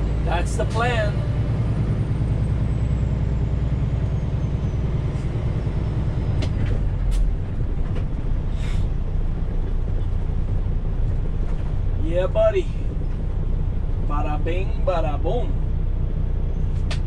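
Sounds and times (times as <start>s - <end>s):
diesel truck engine rumble: 0.0s - 17.0s.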